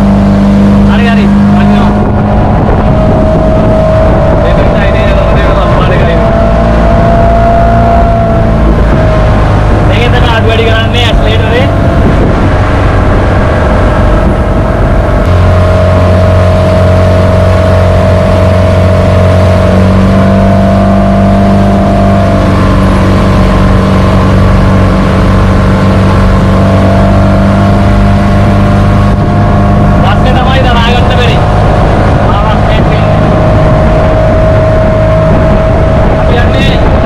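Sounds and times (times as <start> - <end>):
motorboat engine drone: 0.0 - 37.0
rushing water: 0.0 - 37.0
wind: 0.0 - 37.0.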